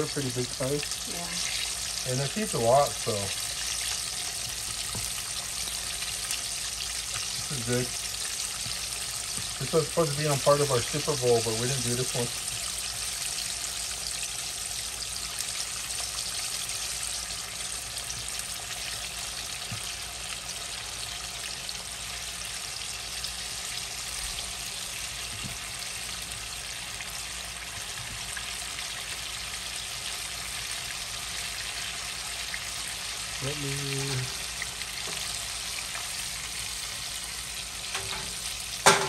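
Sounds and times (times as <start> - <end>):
chicken deep-frying in oil: 0.0 - 39.0.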